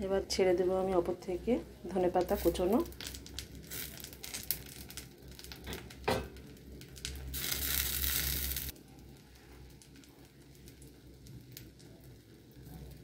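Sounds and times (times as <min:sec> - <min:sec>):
omelette sizzling in oil: 0:01.8 - 0:13.0.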